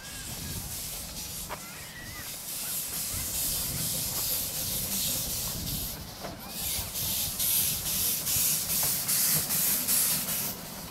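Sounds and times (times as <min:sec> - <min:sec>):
steam hissing: 0:00.0 - 0:10.9
steam locomotive exhaust chuffs: 0:00.0 - 0:10.9.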